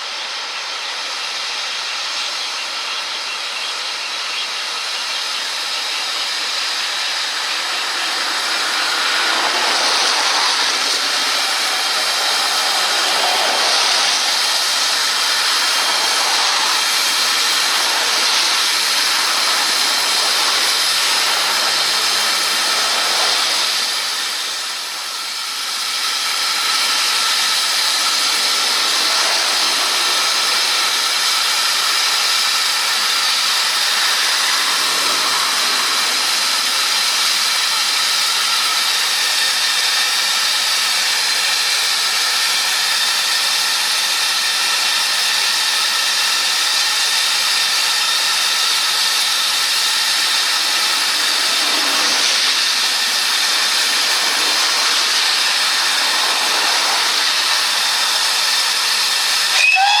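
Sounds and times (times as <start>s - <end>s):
steam hissing: 0.0s - 60.0s
steam whistle: 5.8s - 60.0s.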